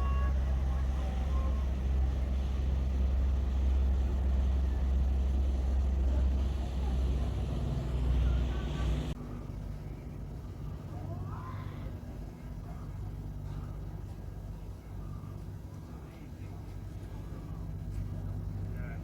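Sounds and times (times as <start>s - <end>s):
ship engine rumble: 0.0s - 19.0s.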